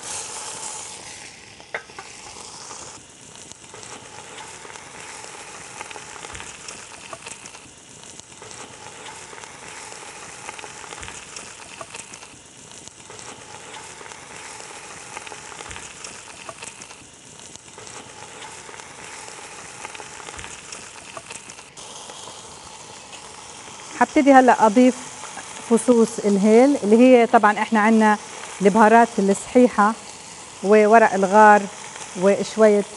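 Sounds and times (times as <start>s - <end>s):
chicken sizzling in hot oil: 0.0s - 32.9s.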